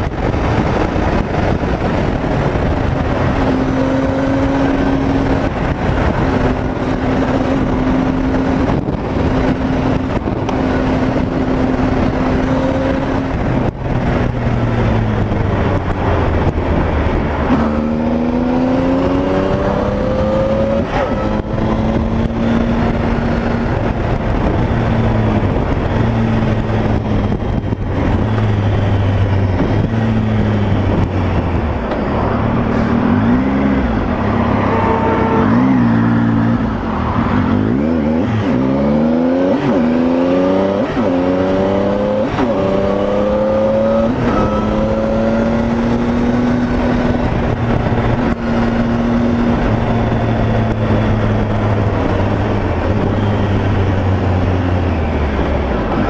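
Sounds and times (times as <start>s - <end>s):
motorcycle engine: 0.0s - 56.0s
wind rush: 0.0s - 56.0s.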